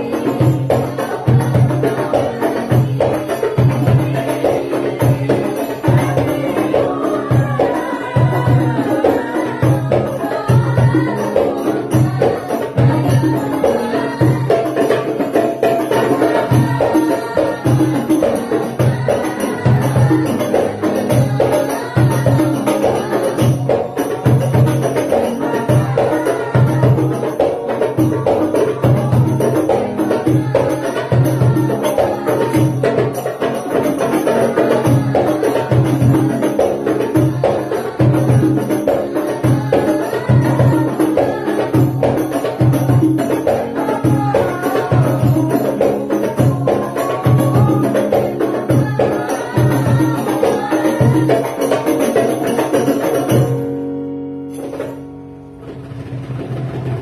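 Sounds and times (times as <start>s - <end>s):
group of voices singing: 0.0s - 53.8s
frame drums beating: 0.0s - 57.0s.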